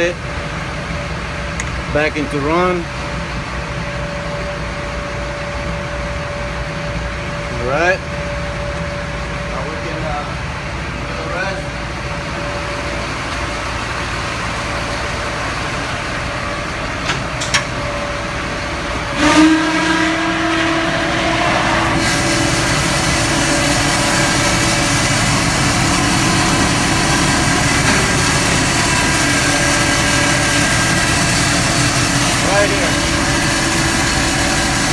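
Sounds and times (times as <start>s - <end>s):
steady hum with high whine: 0.0s - 34.9s
truck engine running: 0.0s - 34.9s.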